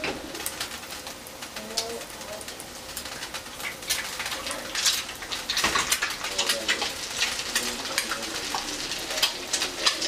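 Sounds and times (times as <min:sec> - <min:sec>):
egg sizzling in butter: 0:00.0 - 0:10.0.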